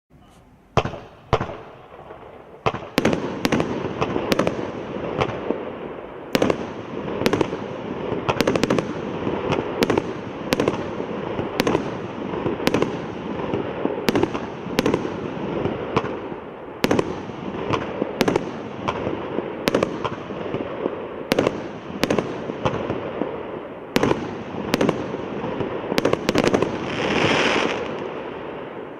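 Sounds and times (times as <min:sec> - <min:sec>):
firework bangs: 0:00.2 - 0:28.9
firework crackle: 0:00.8 - 0:28.9.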